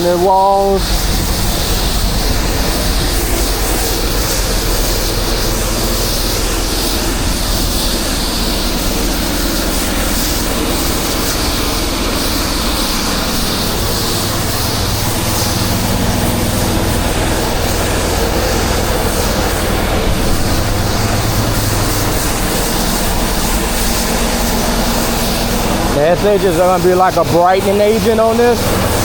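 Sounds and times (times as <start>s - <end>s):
pressure washer engine running: 0.0s - 29.0s
water spray hissing: 0.0s - 29.0s.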